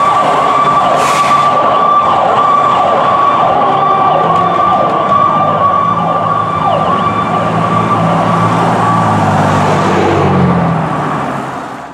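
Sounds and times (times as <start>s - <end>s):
fire engine siren: 0.0s - 11.9s.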